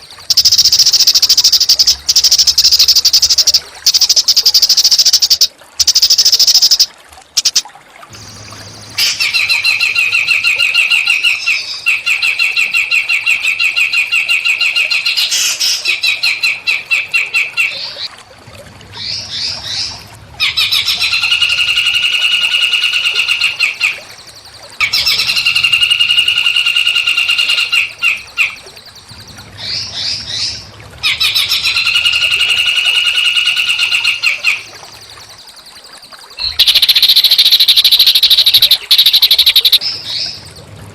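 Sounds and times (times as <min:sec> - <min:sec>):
songbird singing trills: 0:00.0 - 0:18.1, 0:20.4 - 0:40.7.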